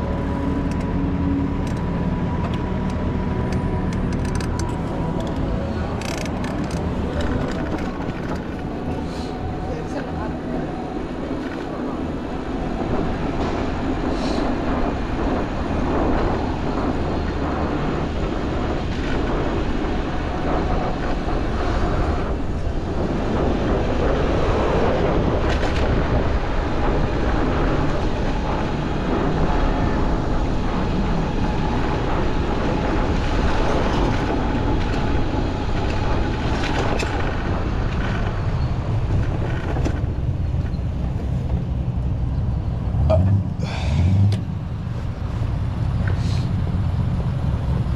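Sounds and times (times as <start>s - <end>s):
city traffic: 0.0s - 47.9s
wind rumbling on microphone: 0.0s - 47.9s.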